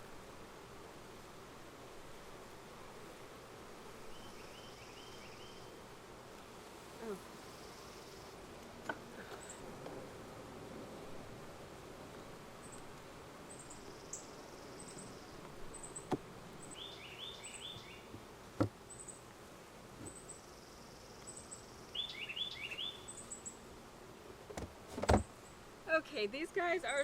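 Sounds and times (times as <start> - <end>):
bees buzzing loudly: 0.0 - 27.0.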